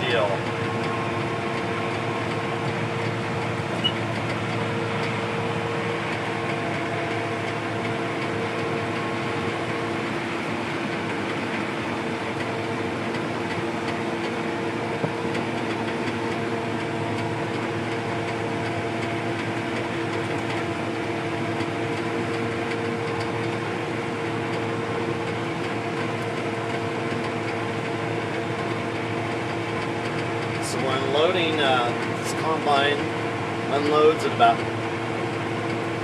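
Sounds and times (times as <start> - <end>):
combine harvester drone: 0.0 - 36.0.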